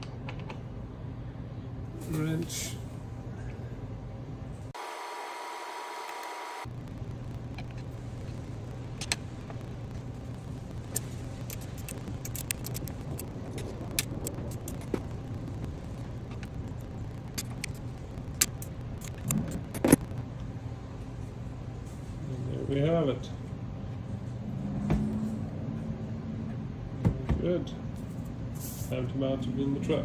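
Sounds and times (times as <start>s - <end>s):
steady low hum: 0.0s - 4.8s, 6.3s - 30.0s.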